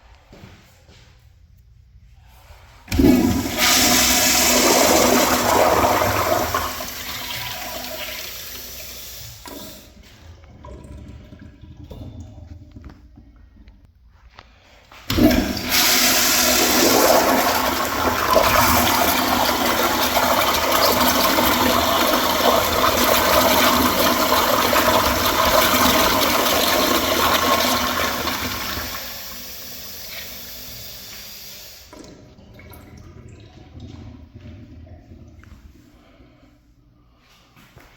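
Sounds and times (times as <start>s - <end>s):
toilet flushing: 2.8s - 13.9s, 15.0s - 36.5s.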